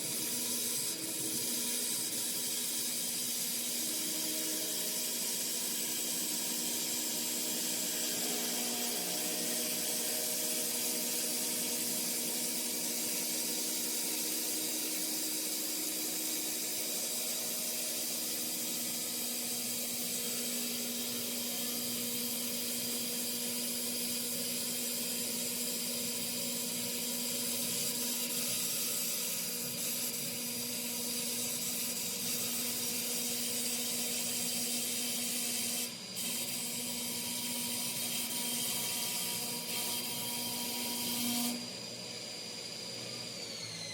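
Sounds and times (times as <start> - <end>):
cutter hissing through wood: 0.0 - 43.9
machine spindle whine: 0.0 - 43.9.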